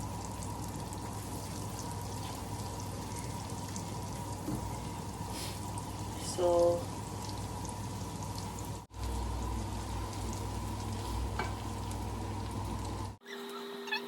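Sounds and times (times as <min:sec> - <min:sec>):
food sizzling in hot oil: 0:00.0 - 0:13.2.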